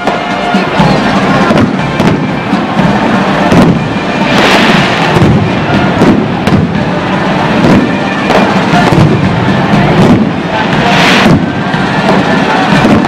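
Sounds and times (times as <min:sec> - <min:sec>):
fireworks bangs: 0:00.0 - 0:13.0
fireworks crackling hiss: 0:00.0 - 0:13.0
marching band playing: 0:00.0 - 0:13.0.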